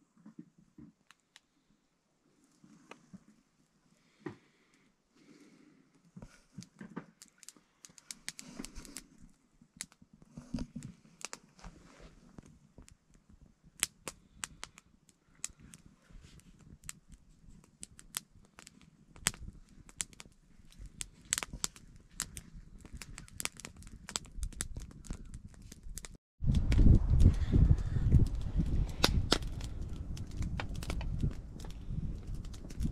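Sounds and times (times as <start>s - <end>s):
sharp snaps and pops: 0.8s - 1.6s, 6.2s - 32.9s
campfire crackling: 6.3s - 32.9s.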